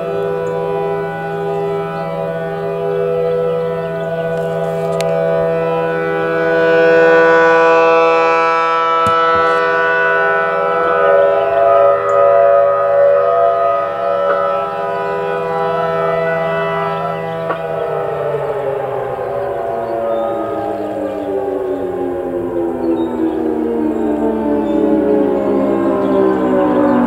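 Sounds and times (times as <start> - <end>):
warning sirens sounding together: 0.0 - 27.0.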